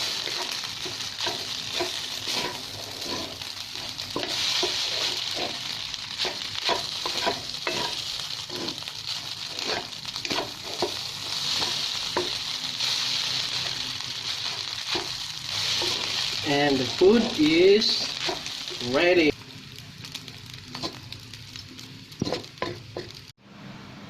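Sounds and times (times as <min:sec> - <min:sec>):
rice sizzling in a hot pan: 0:00.0 - 0:23.4.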